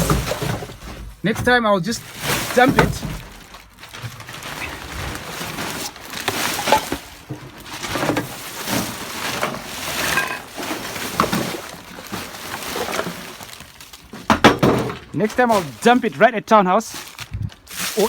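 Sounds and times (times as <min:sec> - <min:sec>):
refuse rustling and knocking: 0:00.0 - 0:16.1.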